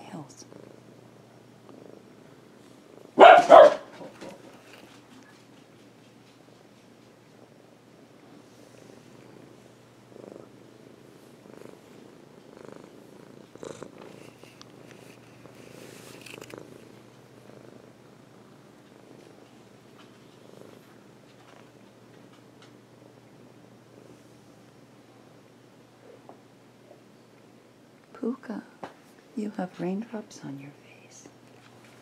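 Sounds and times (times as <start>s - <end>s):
cat purring: 0.0s - 28.7s.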